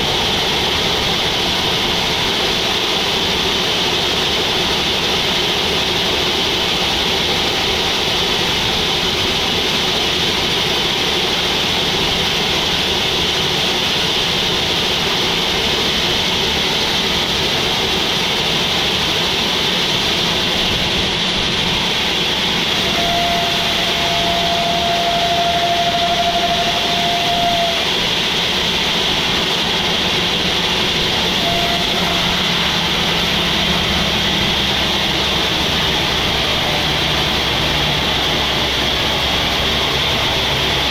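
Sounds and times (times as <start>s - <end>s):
hiss: 0.0s - 40.9s
sawmill machinery drone: 0.0s - 40.9s
thin steady whine: 0.0s - 40.9s.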